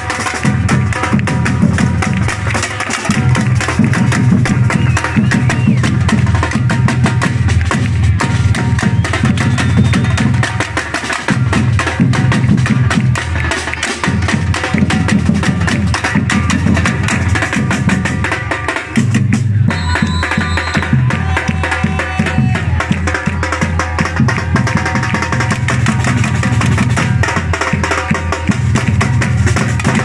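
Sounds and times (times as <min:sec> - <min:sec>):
percussion ensemble drumming: 0:00.0 - 0:30.0.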